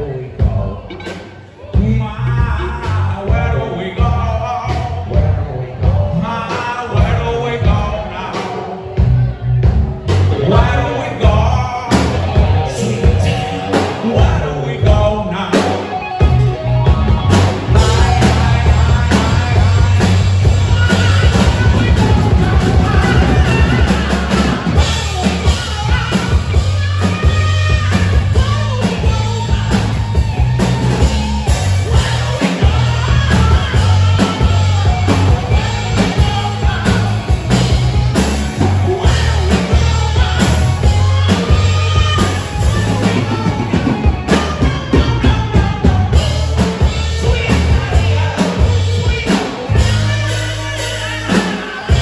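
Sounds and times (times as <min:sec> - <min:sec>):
live rock band playing: 0:00.0 - 0:52.0
person singing: 0:00.0 - 0:52.0.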